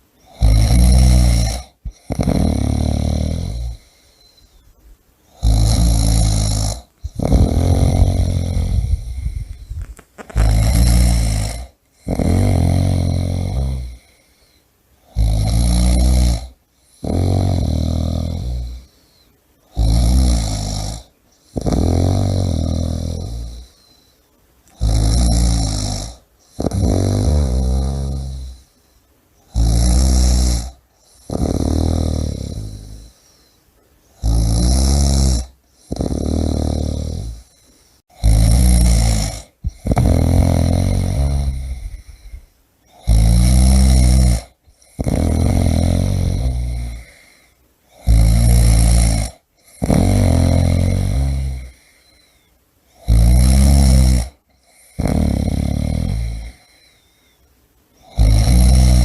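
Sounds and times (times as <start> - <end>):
person snoring: 0.2 - 4.6, 5.3 - 24.1, 24.7 - 28.8, 29.4 - 33.6, 34.2 - 57.2, 58.0 - 59.0.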